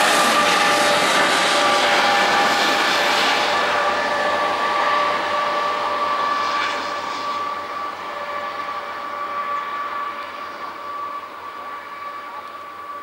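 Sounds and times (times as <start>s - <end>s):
railcar rolling: 0.0s - 13.0s.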